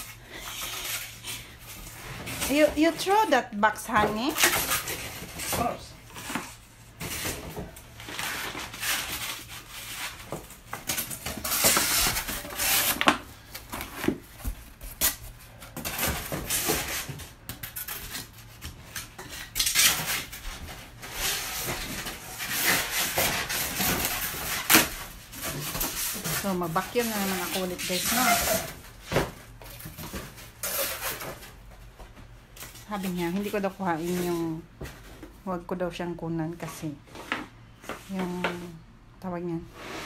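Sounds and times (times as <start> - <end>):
cardboard and plastic rustling: 0.0 - 35.4.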